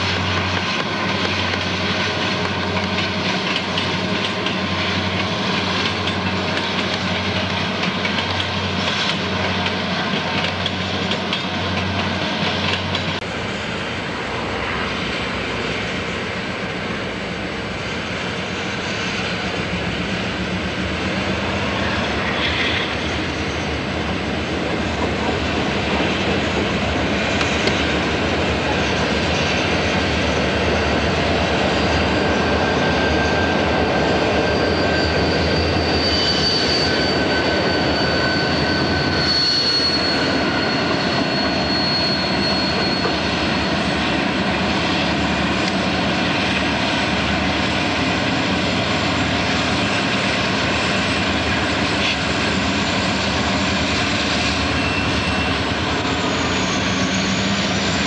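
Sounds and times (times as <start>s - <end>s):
pulsing locomotive engine drone: 0.0s - 58.0s
train rumbling past: 0.0s - 58.0s.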